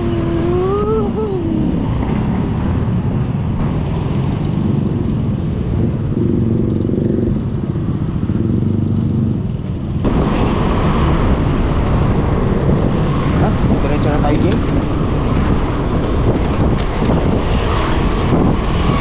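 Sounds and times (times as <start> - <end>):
motor vehicle engines passing: 0.0 - 19.0
wind noise on microphone: 0.0 - 19.0.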